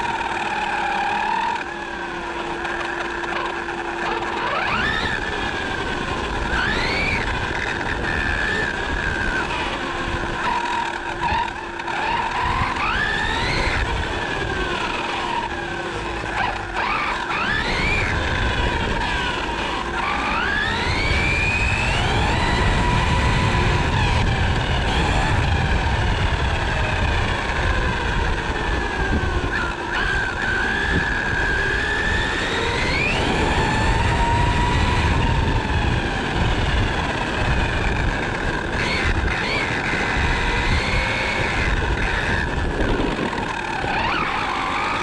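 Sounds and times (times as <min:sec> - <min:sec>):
electric motor whining: 0:00.0 - 0:45.0
tyre and road rumble: 0:00.0 - 0:45.0.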